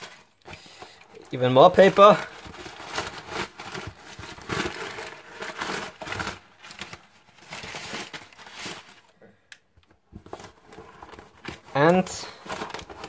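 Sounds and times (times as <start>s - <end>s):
packing paper crinkling and rustling: 0.0s - 9.2s, 10.1s - 13.0s.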